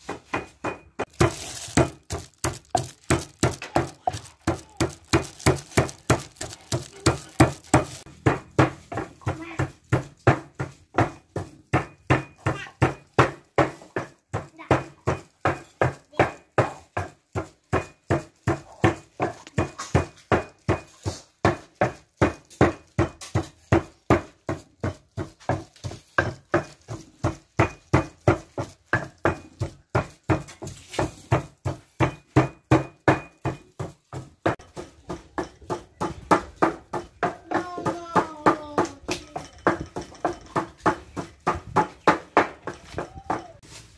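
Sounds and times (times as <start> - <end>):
pestle pounding in clay mortar: 0.0 - 43.8.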